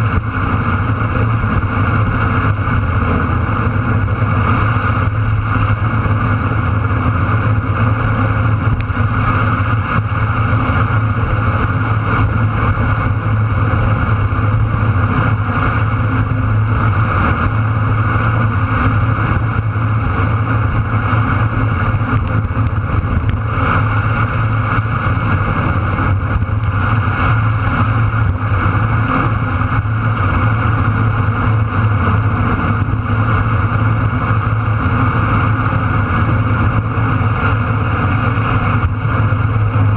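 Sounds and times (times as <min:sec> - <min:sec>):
vehicle engine drone: 0:00.0 - 0:39.9
wind rush: 0:00.0 - 0:39.9.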